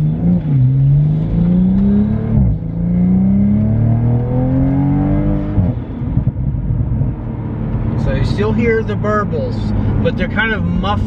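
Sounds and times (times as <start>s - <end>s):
car engine and exhaust accelerating: 0.0s - 11.0s.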